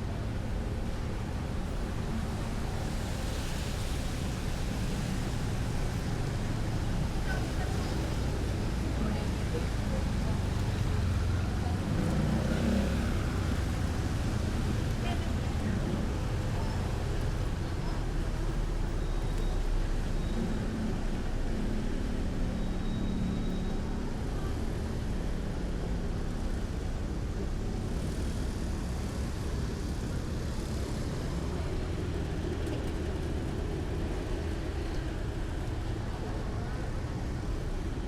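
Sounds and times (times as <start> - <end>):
road traffic noise: 0.0 - 38.0.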